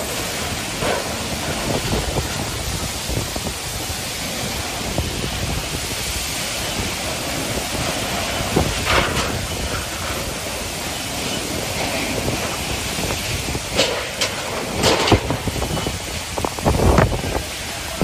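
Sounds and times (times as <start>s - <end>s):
heavy rain hissing: 0.0s - 18.0s
wind buffeting microphone: 0.0s - 18.0s.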